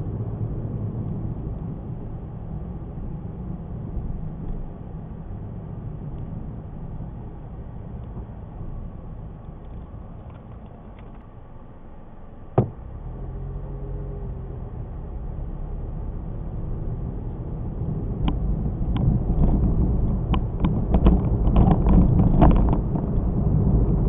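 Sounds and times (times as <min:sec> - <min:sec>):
car engine rumble: 0:00.0 - 0:24.0.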